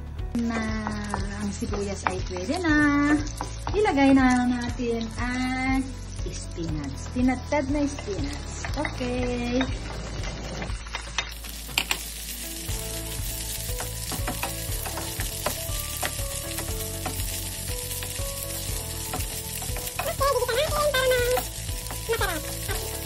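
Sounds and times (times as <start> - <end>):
spinach sizzling in oil: 0.3 - 23.0.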